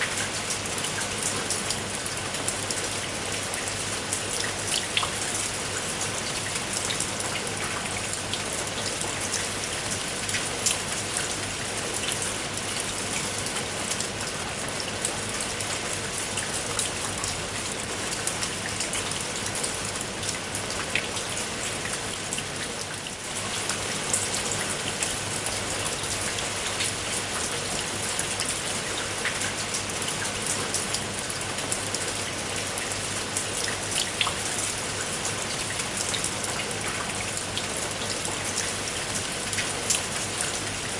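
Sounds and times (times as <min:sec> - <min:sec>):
steady rain drops: 0:00.0 - 0:40.9.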